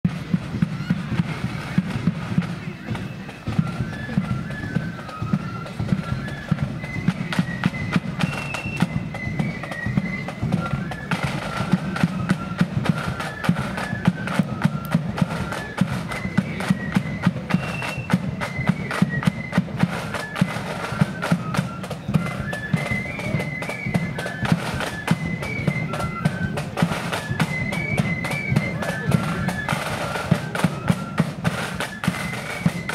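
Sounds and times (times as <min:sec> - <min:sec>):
flutes playing shrill melody: 0:00.1 - 0:32.9
rapid side drum strokes: 0:00.1 - 0:32.9.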